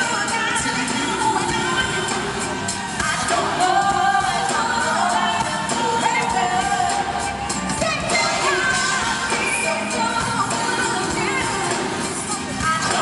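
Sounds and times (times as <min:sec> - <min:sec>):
female vocal group singing: 0:00.0 - 0:13.0
full band playing: 0:00.0 - 0:13.0.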